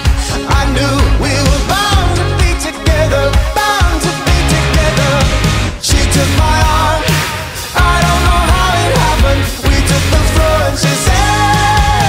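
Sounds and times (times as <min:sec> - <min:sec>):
pop song with singing: 0:00.0 - 0:12.0
steady bass beat: 0:00.0 - 0:12.0.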